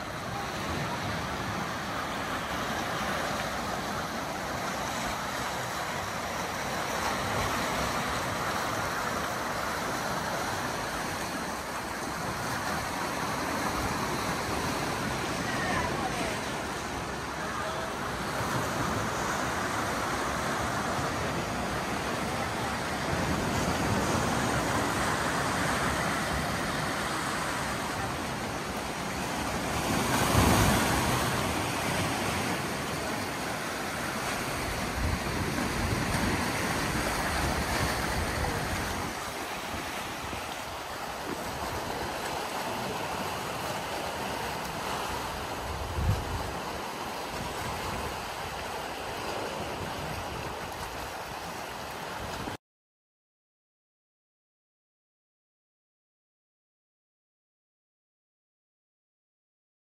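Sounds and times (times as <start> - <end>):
sea waves washing against rocks: 0.0 - 52.6
wave breaking: 0.0 - 52.6.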